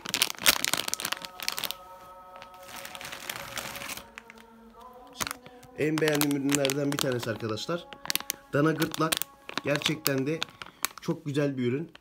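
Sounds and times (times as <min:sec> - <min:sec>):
plastic pack crinkling: 0:00.0 - 0:12.0
soft background music: 0:00.0 - 0:12.0.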